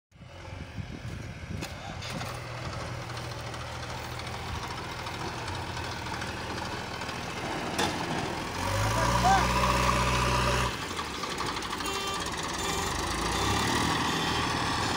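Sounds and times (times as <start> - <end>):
diesel engine idling: 0.2 - 14.9.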